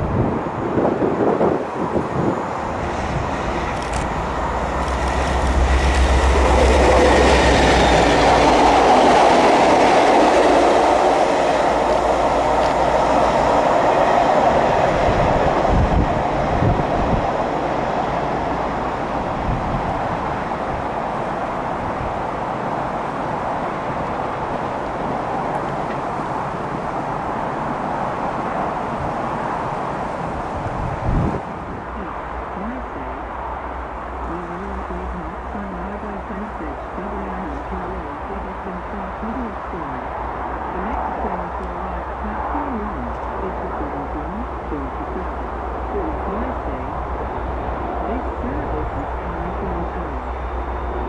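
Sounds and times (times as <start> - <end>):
diesel locomotive engine: 0.0 - 51.0
train wheels rumbling on rails: 0.0 - 51.0.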